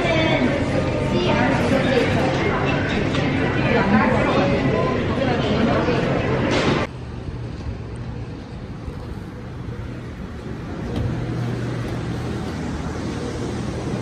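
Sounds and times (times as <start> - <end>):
escalator machine hum: 0.0 - 14.0
shopping mall background noise: 0.0 - 14.0.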